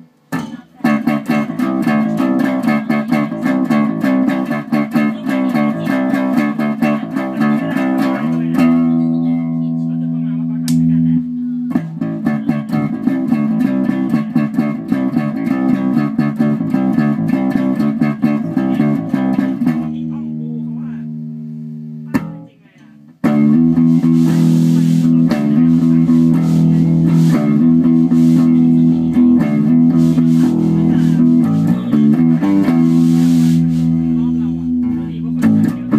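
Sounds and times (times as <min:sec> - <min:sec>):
electric bass playing: 0:00.0 - 0:35.9.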